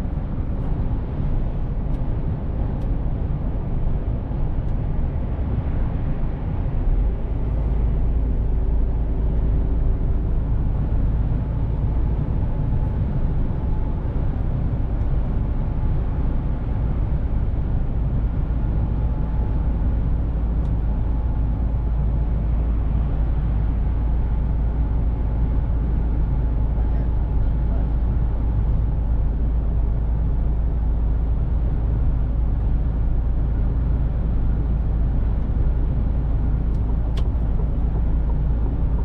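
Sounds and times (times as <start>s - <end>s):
truck engine and road rumble: 0.0s - 39.0s.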